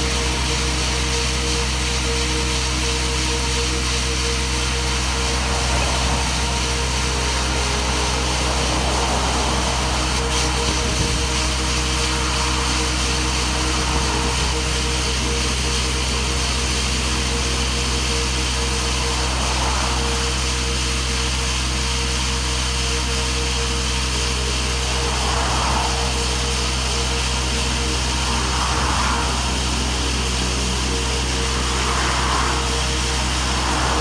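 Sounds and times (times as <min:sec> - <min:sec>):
coring rig cutting asphalt: 0:00.0 - 0:34.0
passing traffic: 0:00.0 - 0:34.0.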